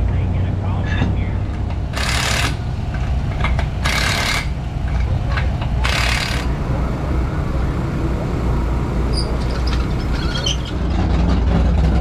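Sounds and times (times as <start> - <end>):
race car engine rumbling: 0.0 - 12.0.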